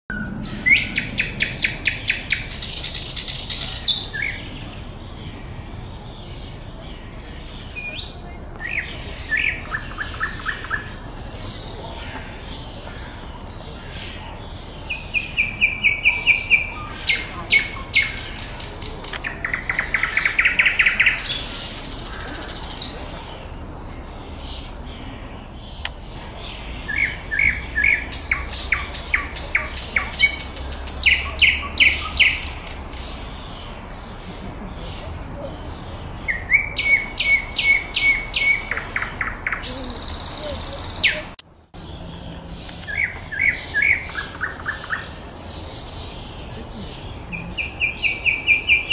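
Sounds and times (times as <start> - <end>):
nightingale singing: 0.1 - 48.9.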